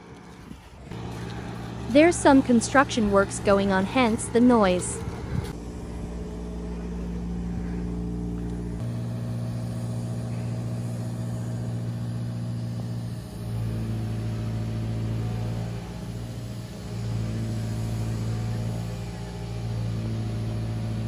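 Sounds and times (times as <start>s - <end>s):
construction machinery engine: 0.0s - 21.0s.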